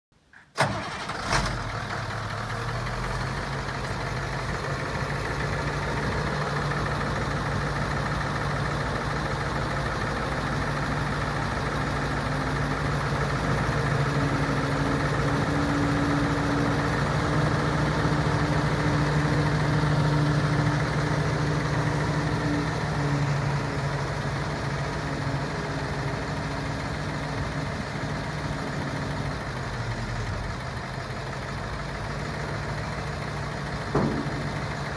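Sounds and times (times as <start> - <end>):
truck engine idling: 0.6 - 34.9.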